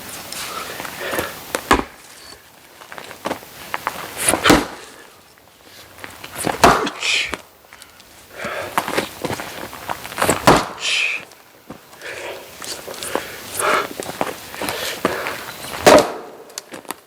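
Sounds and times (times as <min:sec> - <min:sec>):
firewood logs knocking: 0:00.8 - 0:05.0, 0:06.0 - 0:07.8, 0:08.4 - 0:17.0.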